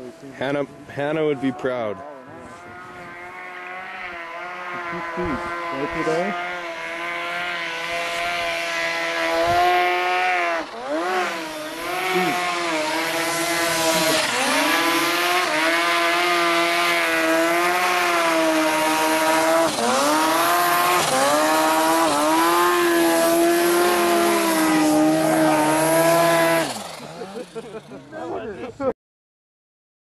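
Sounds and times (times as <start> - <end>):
snowmobile engine revving: 0.0 - 28.7.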